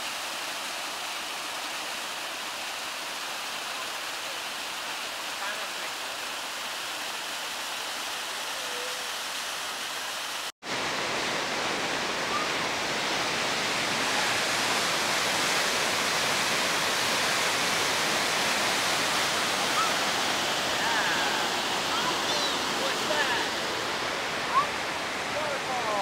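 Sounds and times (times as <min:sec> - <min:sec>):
creek and waterfall rushing: 0:00.0 - 0:26.0.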